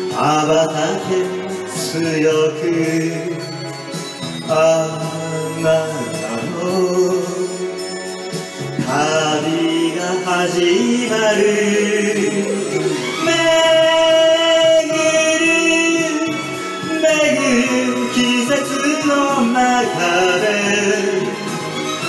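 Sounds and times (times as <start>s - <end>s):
folk-pop ballad recording: 0.0s - 22.0s.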